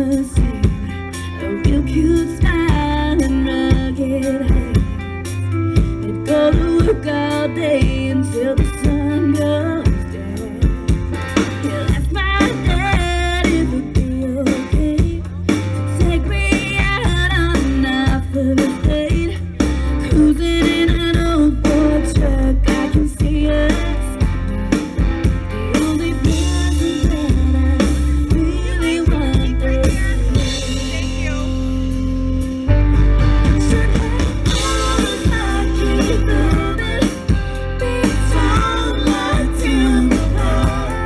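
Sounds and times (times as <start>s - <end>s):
woman singing into microphone: 0.0s - 5.1s, 5.7s - 31.2s, 33.5s - 41.0s
drum kit: 0.0s - 41.0s
guitar: 0.0s - 41.0s
live country band playing: 0.0s - 41.0s.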